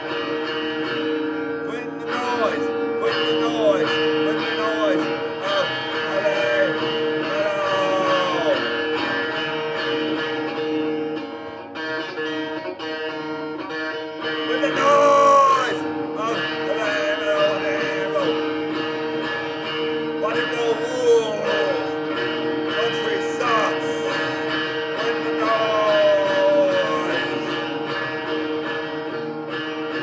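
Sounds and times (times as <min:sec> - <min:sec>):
guitar lead with bending notes: 0:00.0 - 0:30.0.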